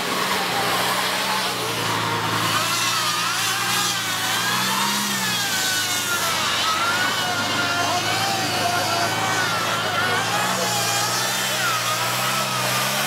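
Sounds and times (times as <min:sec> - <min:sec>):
van engine running under load: 0:00.0 - 0:13.0.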